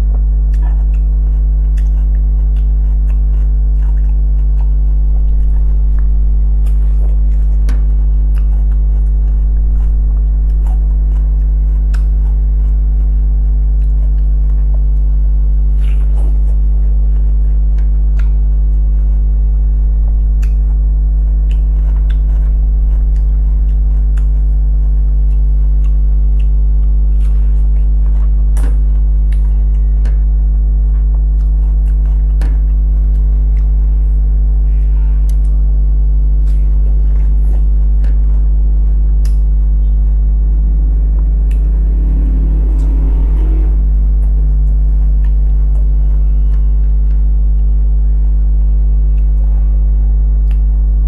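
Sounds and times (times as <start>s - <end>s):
low electrical hum: 0.0s - 51.0s
chewing clicks and lip smacks: 0.1s - 43.3s, 44.2s - 51.0s.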